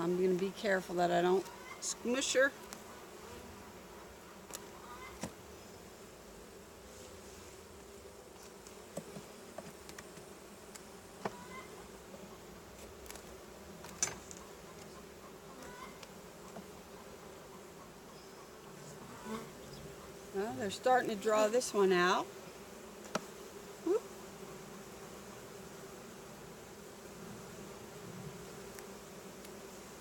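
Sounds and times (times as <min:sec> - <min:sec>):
bees humming: 0:00.0 - 0:30.0.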